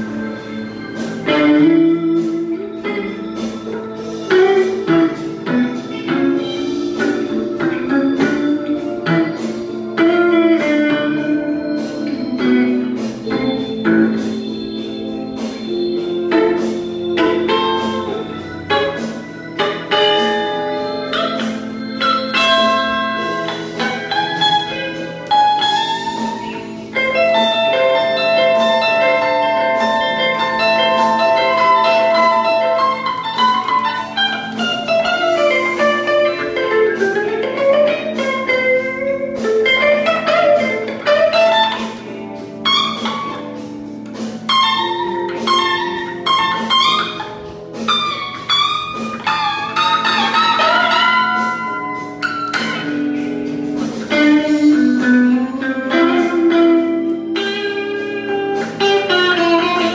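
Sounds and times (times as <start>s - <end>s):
blues guitar solo: 0.0s - 59.9s.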